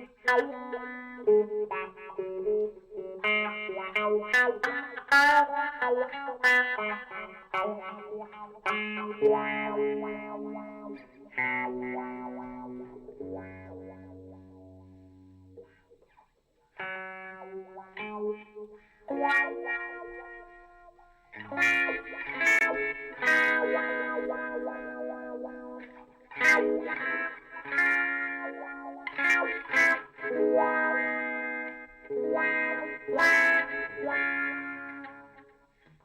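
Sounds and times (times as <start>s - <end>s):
distorted electric guitar: 0.0s - 36.0s.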